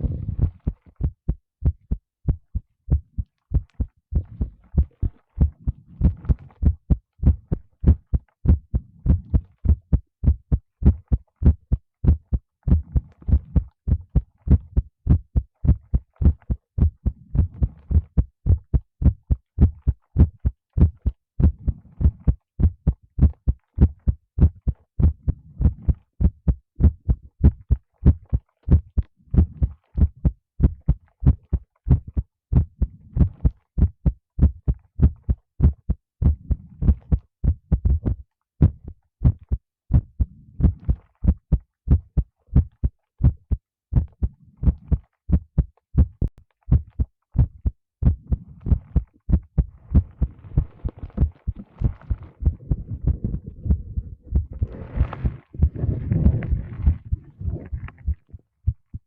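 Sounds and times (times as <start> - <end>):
heartbeat thumps: 0.0 - 59.0.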